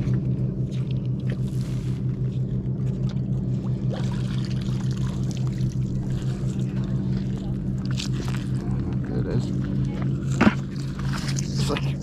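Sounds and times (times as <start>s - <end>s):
motor droning with pulse: 0.0s - 12.0s.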